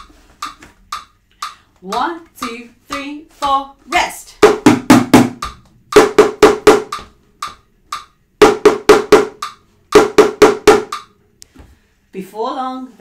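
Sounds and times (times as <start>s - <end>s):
stick tapping plastic bucket: 0.0s - 11.2s
metronome ticking: 0.0s - 11.3s.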